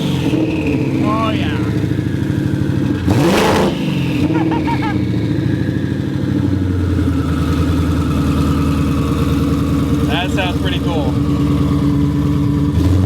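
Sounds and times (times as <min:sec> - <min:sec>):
car engine revving then idling: 0:00.0 - 0:13.0
faint turbo whine: 0:00.0 - 0:13.0.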